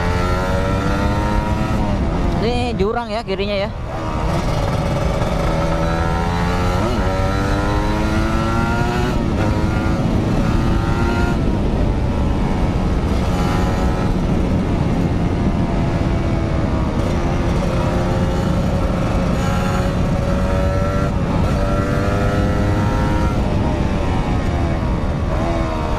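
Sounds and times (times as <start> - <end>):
motorcycle engine accelerating: 0.0 - 25.9
wind rumble on microphone: 0.0 - 25.9.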